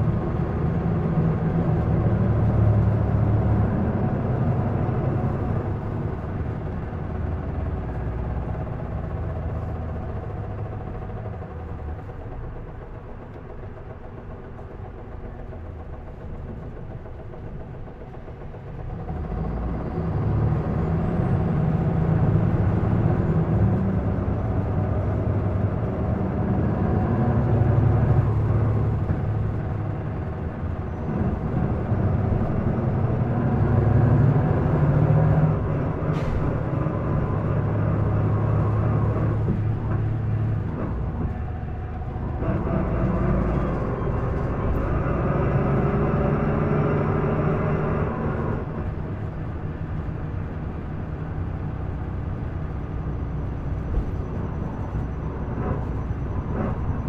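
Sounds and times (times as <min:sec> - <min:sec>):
bus diesel engine revving: 0:00.0 - 0:57.0.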